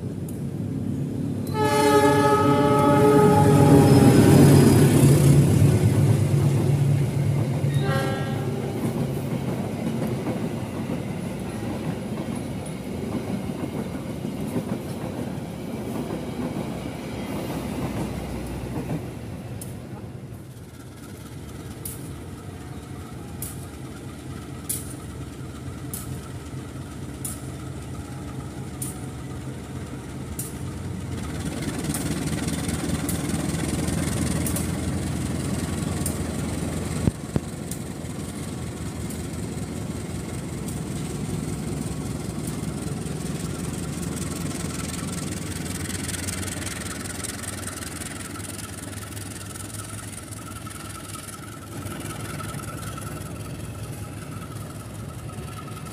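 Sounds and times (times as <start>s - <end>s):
train engine rumble: 0.0s - 55.9s.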